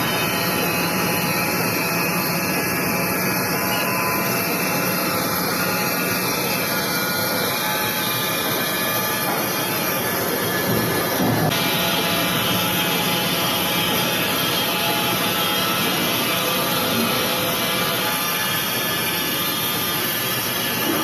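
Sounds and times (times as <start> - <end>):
band sawmill running: 0.0 - 21.0.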